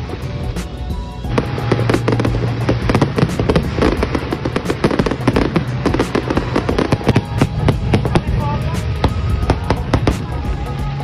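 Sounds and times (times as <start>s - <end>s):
background music: 0.0s - 11.0s
fireworks bangs and crackles: 0.0s - 11.0s.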